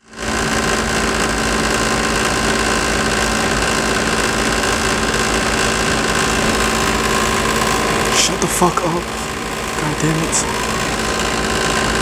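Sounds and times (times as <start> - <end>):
car engine humming: 2.0 - 12.0.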